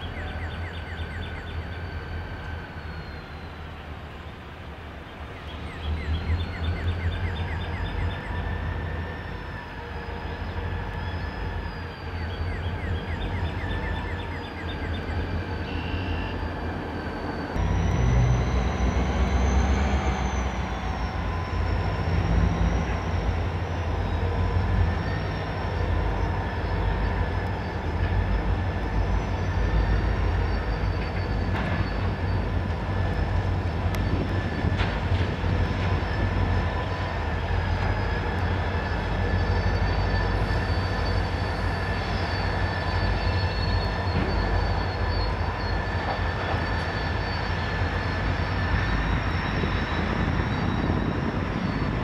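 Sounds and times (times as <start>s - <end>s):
wheel squeal: 0.0s - 3.8s, 5.6s - 52.0s
locomotive engine rumble: 0.0s - 52.0s.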